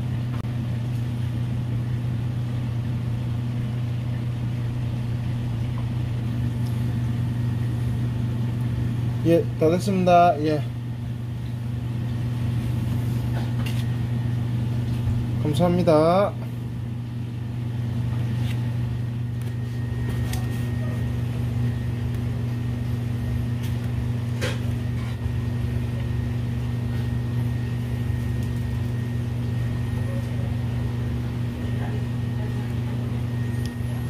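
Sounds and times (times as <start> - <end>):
machine humming: 0.0 - 34.0.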